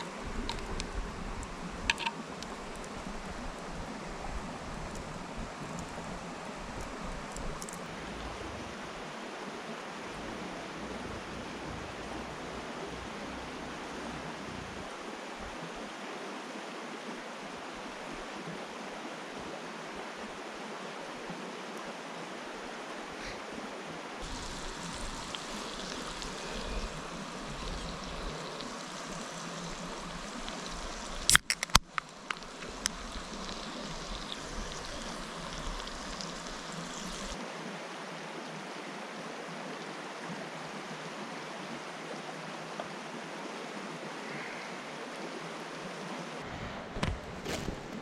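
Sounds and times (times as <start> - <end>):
river flowing: 0.0 - 48.0.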